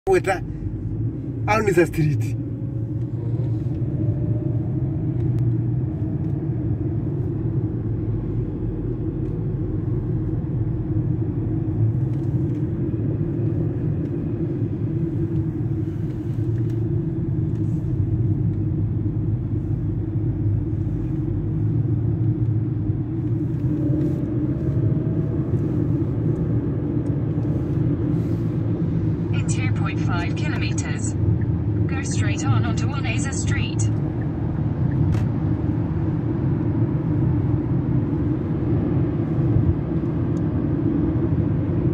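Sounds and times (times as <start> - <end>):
car cabin road rumble: 0.1 - 41.9.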